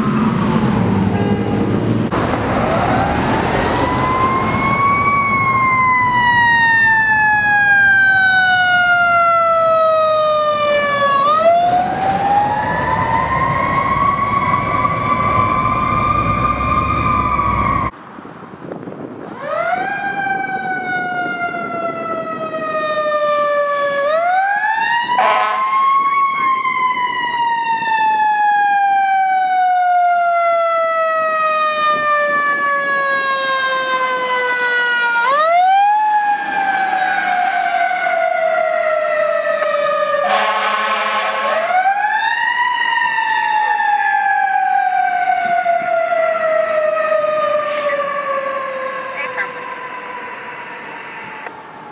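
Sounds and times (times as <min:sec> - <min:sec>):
fire engine siren wailing: 0:00.0 - 0:18.0, 0:19.1 - 0:51.9.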